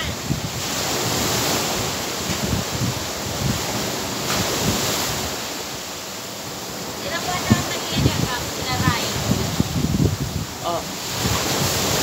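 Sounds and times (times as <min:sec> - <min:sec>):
surf breaking against seawall: 0:00.0 - 0:12.0
wind buffeting microphone: 0:00.0 - 0:12.0.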